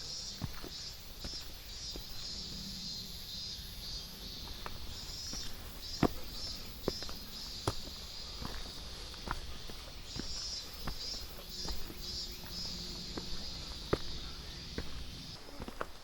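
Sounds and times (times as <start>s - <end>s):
footsteps on hiking trail: 0.0s - 16.0s
insects chirping: 0.0s - 16.0s.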